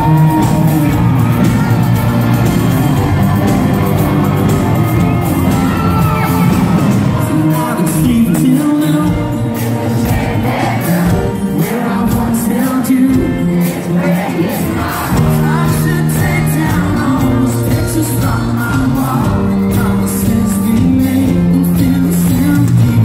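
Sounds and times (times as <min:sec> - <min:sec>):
electric guitar: 0:00.0 - 0:23.0
live country rock band: 0:00.0 - 0:23.0.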